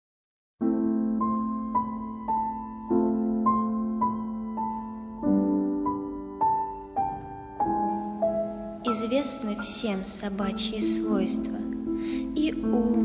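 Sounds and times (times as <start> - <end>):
slow piano music: 0.6 - 13.0.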